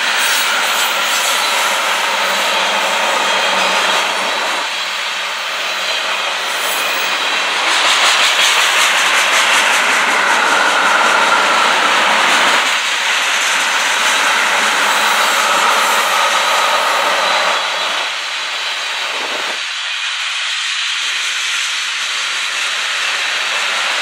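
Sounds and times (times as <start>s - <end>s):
steel train wheels on rail: 0.0s - 24.0s.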